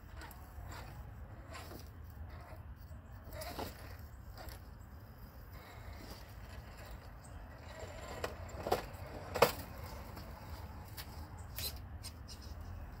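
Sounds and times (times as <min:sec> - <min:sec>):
rc crawler clattering on rocks: 0:00.0 - 0:04.8, 0:05.5 - 0:13.0.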